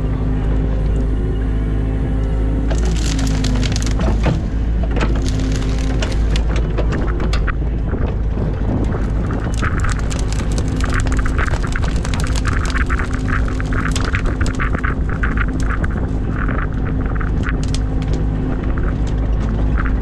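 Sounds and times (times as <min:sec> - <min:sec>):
excavator diesel engine running: 0:00.0 - 0:20.0
branches cracking and snapping: 0:02.6 - 0:20.0.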